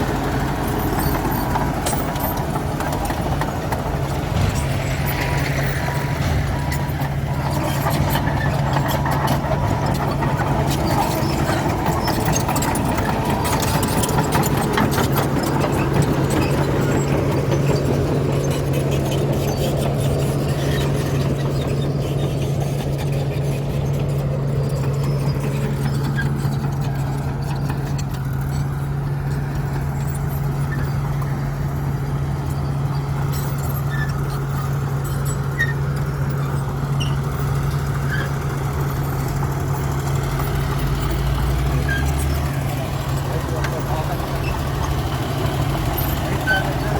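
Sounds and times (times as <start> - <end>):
diesel machinery engine drone: 0.0 - 46.9
rattling and clanking: 0.0 - 46.9.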